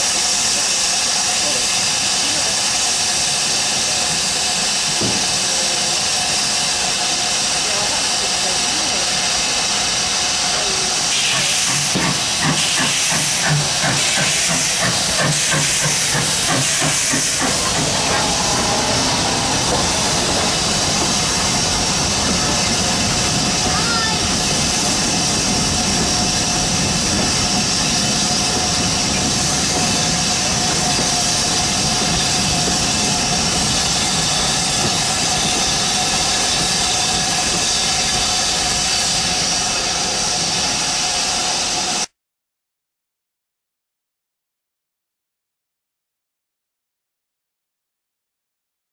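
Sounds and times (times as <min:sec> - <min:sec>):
steam hissing: 0:00.0 - 0:42.1
steam locomotive regular beat: 0:00.0 - 0:42.1.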